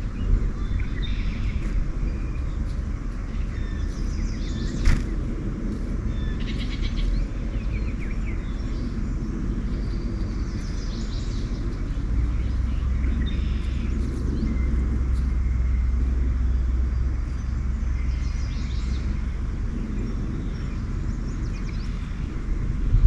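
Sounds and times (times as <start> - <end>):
low rumble: 0.0 - 23.0
songbirds chirping: 0.0 - 23.0.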